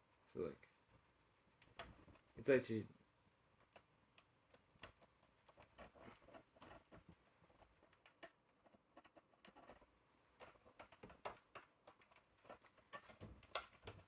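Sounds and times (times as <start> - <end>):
clicks and rustles of wires: 0.6 - 2.5, 3.5 - 14.0.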